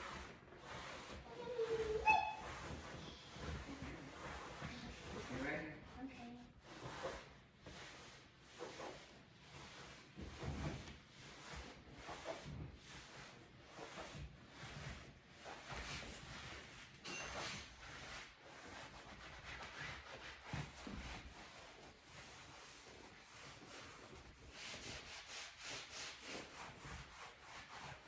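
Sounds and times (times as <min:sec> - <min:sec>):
cloth wiping leather upholstery: 0:00.0 - 0:05.5, 0:06.4 - 0:16.9, 0:17.9 - 0:28.0.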